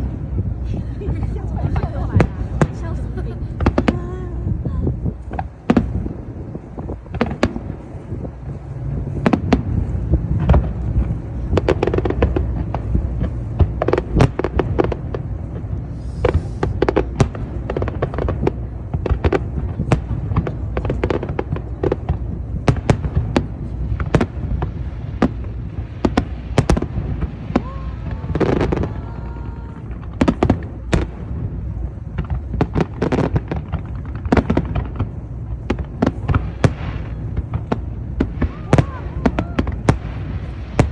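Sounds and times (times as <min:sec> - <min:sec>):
fireworks bangs and crackles: 0:00.0 - 0:40.9
low rumble: 0:00.0 - 0:40.9.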